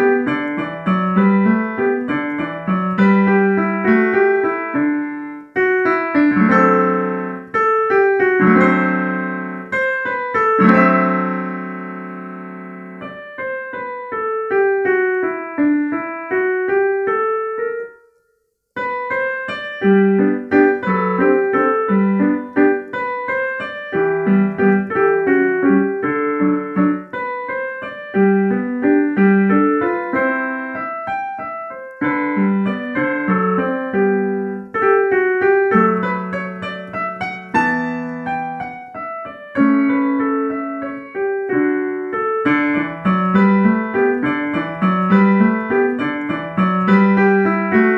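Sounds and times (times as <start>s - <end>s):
digital piano classical piece: 0.0s - 47.9s.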